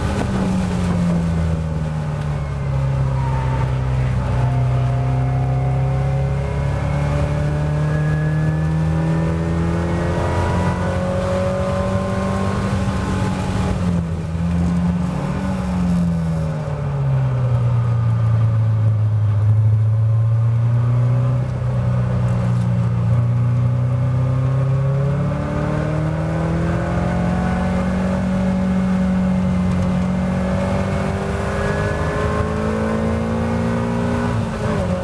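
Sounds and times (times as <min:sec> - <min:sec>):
race car engine accelerating: 0:00.0 - 0:16.4, 0:20.6 - 0:35.0.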